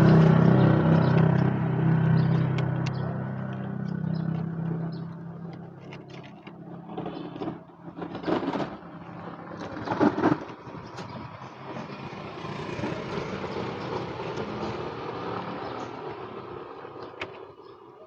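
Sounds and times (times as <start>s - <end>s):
passing road vehicle: 0.0s - 18.0s.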